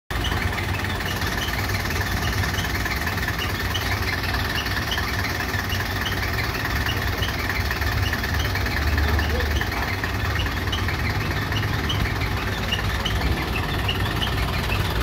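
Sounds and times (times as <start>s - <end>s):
truck engine idling: 0.1s - 15.0s
steady high tone: 0.2s - 15.0s.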